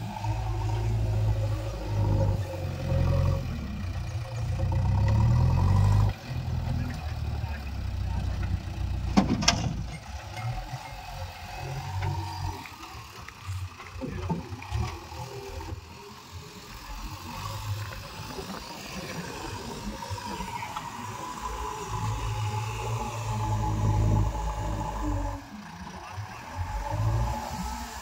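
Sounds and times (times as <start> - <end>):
diesel engines running: 0.0 - 28.0.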